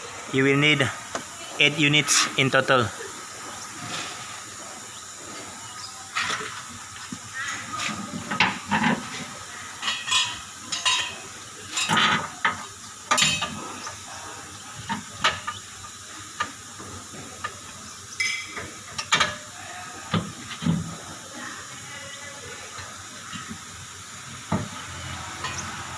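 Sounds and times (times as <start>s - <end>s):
steady background hiss: 0.0s - 25.9s.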